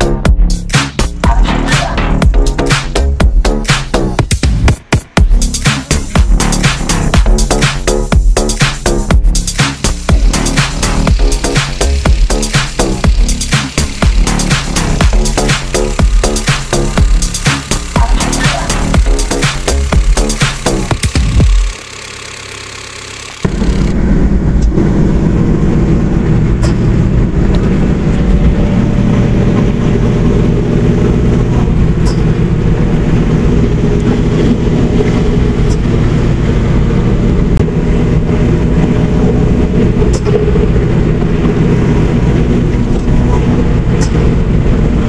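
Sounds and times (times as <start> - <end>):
car engine cruising: 0.0 - 45.0
road noise inside car: 5.2 - 45.0.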